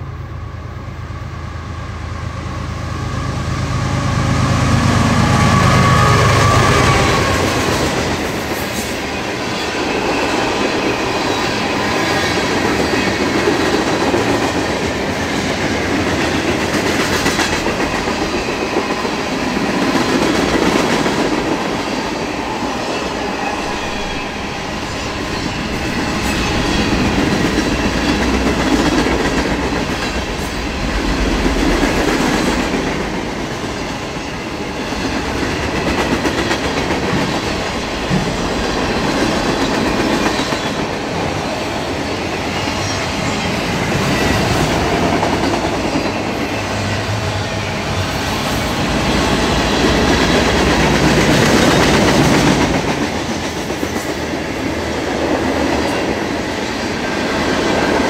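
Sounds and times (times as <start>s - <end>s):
freight train wheels rumbling on rail: 0.0s - 58.0s
wheels clacking on rail: 4.7s - 58.0s.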